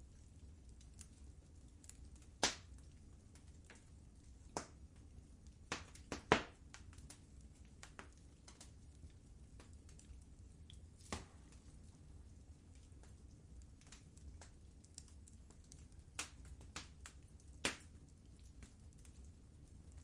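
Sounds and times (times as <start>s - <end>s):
low rumble of burning: 0.0s - 20.0s
fire pops and snaps: 0.2s - 20.0s.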